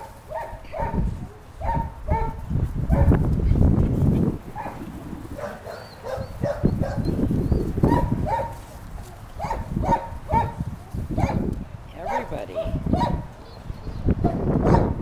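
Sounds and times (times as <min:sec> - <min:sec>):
puppies yapping: 0:00.0 - 0:03.2, 0:04.2 - 0:15.0.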